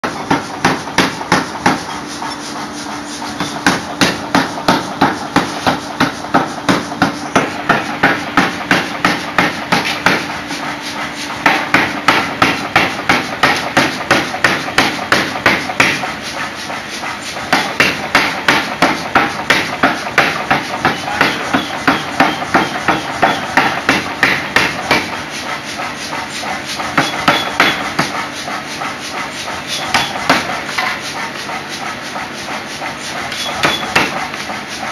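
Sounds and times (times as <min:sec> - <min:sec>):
power hammer pounding steel: 0:00.0 - 0:34.9.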